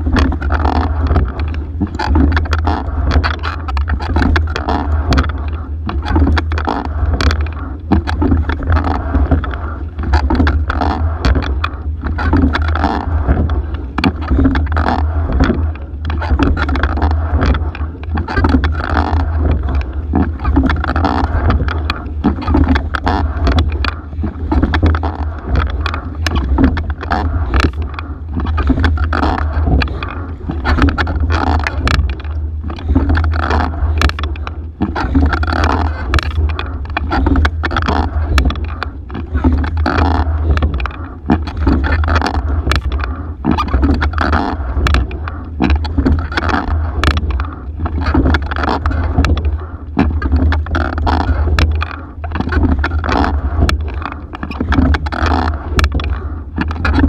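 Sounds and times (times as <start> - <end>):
oars clicking in oarlocks: 0.0 - 57.0
steady low rumble: 0.0 - 57.0
water rushing along hull: 0.0 - 57.0.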